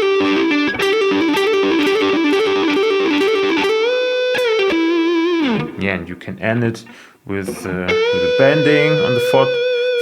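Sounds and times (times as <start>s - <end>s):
guitar lick: 0.0s - 6.0s, 6.8s - 10.0s.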